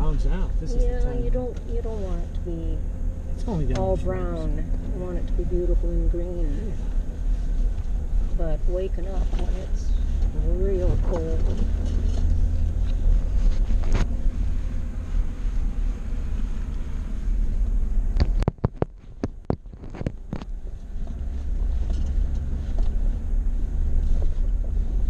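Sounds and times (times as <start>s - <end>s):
vehicle rumbling on dirt road: 0.0s - 25.0s.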